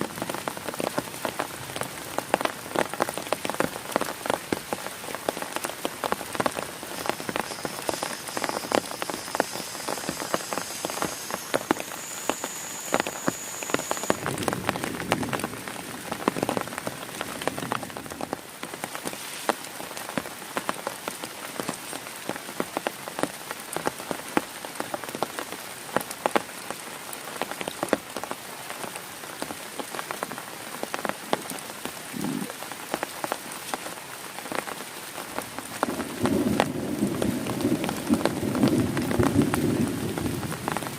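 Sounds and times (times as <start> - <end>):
heavy rain on a tent: 0.0 - 40.9.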